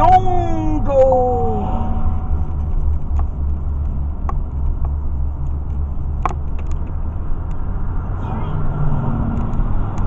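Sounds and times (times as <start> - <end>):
vehicle cabin rumble: 0.0 - 10.0.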